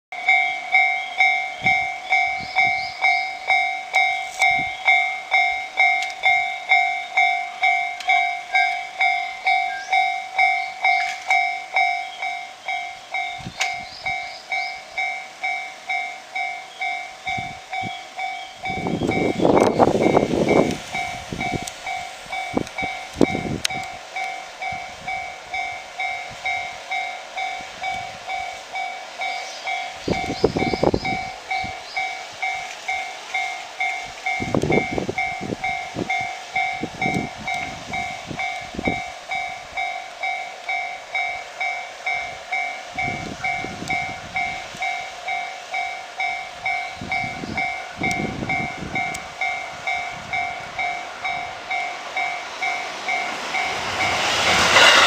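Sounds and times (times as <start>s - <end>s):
level-crossing warning bell: 0.1s - 55.0s.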